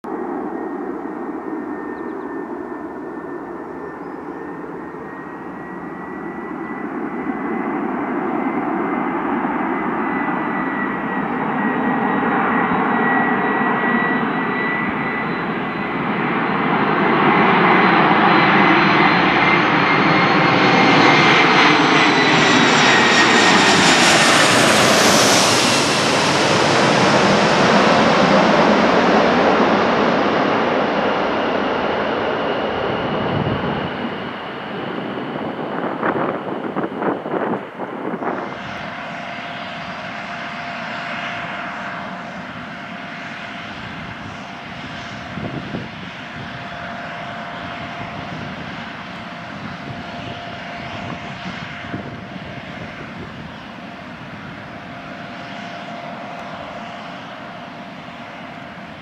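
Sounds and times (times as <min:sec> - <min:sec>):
jet engine whine and roar: 0:00.0 - 0:59.0.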